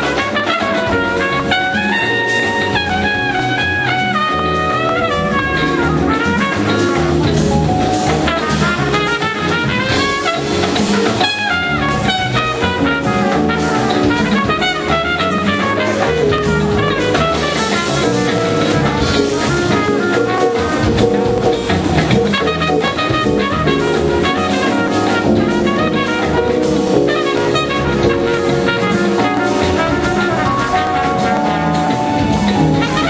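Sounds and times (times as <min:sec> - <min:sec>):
brass horns playing: 0:00.0 - 0:33.0
drum kit and percussion: 0:00.0 - 0:33.0.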